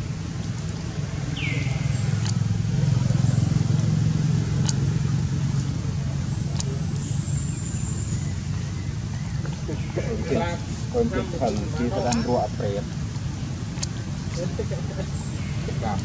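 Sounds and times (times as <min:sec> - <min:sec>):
passing vehicle engine rumble: 0:00.0 - 0:16.0.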